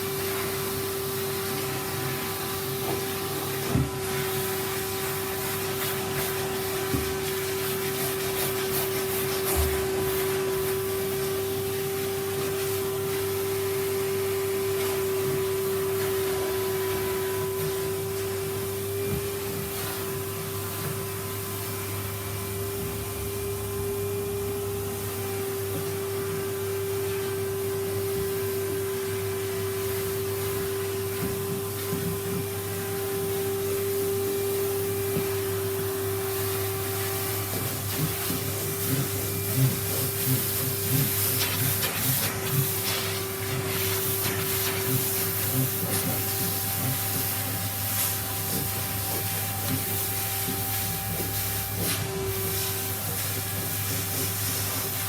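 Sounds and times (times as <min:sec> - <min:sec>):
sander scraping and knocking: 0:00.1 - 0:21.5, 0:22.4 - 0:55.0.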